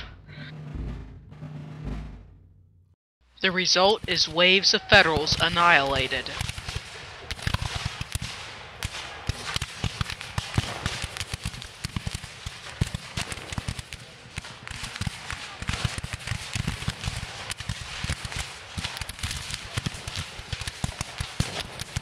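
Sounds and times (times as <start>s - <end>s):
musket shots crackling: 3.5s - 22.0s.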